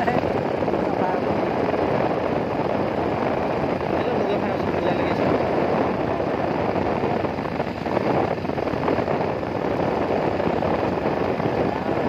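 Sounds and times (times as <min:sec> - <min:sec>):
road noise: 0:00.0 - 0:12.0
wind on microphone: 0:00.0 - 0:12.0.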